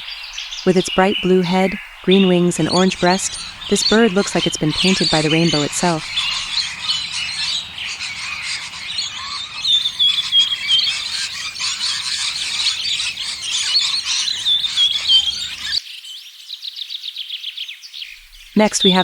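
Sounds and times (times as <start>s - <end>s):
repeated bird chirps: 0.0s - 15.8s, 18.6s - 19.0s
chorus of birds chirping: 0.0s - 19.0s.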